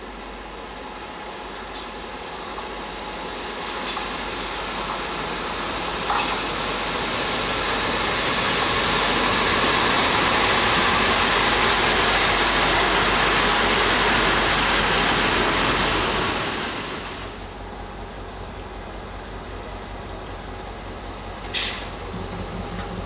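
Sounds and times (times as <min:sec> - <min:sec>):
locomotive engine running: 0:00.1 - 0:23.0
train wheels rolling over rails: 0:01.5 - 0:23.0.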